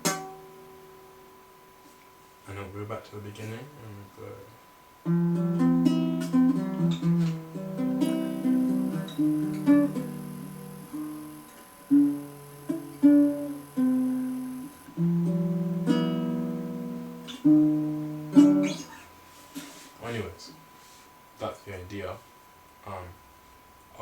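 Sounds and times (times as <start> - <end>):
acoustic guitar chords: 0.0 - 1.8, 2.5 - 20.9.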